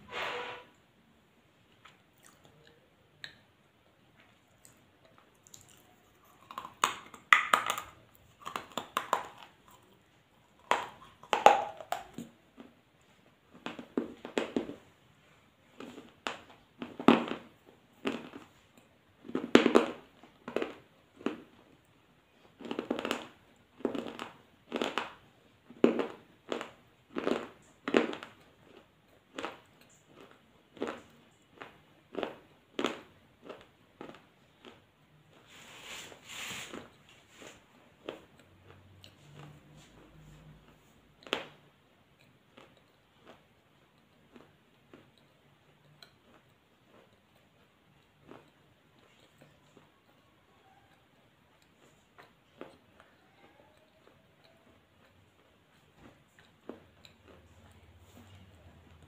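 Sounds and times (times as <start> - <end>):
person chewing food: 1.6 - 59.0.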